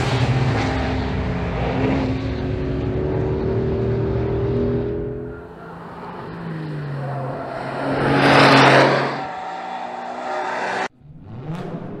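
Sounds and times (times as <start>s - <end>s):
sports car driving by: 0.0s - 11.8s.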